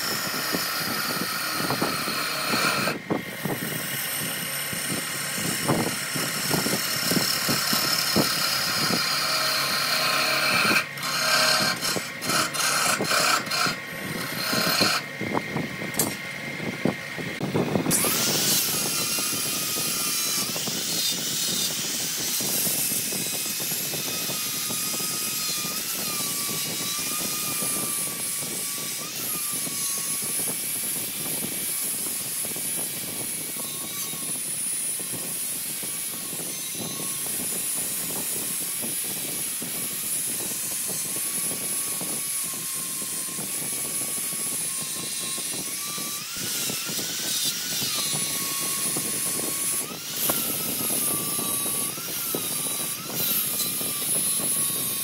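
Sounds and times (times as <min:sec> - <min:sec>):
angle grinder sanding wood: 0:00.0 - 0:55.0.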